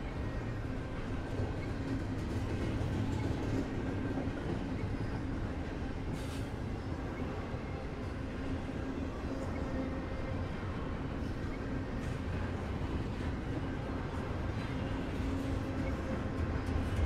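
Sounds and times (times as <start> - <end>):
freight train rolling past: 0.0 - 17.0
wheels rumbling on rail: 0.0 - 17.0.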